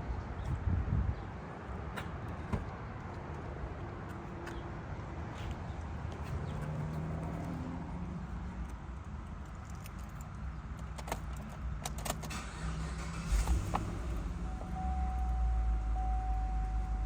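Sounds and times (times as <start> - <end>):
car engine rumbling: 0.4 - 17.0.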